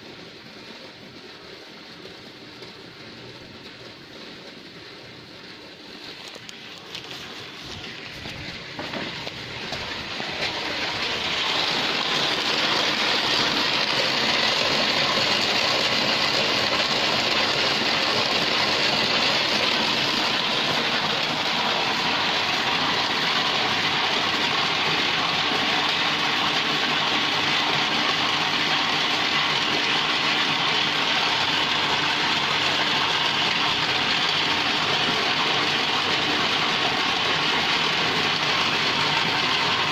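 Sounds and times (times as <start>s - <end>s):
rice washing machine rushing: 0.0s - 39.9s
wet rice pouring into tub: 6.8s - 39.9s.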